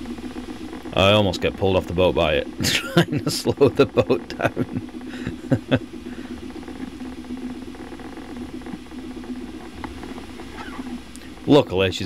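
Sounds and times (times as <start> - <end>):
boat engine humming with rattle: 0.0 - 12.0.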